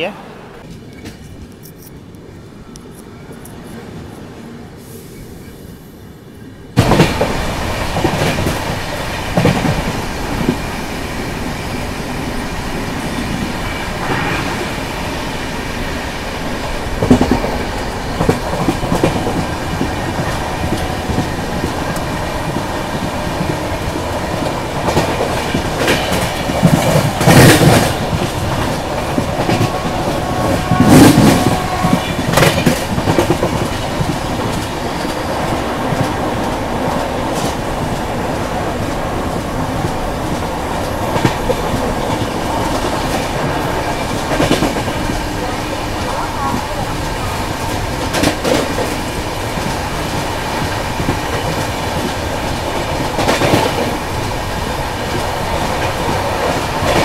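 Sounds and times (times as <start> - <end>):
loud train clattering: 2.6 - 57.0
train wheels clickety-clack: 6.8 - 57.0.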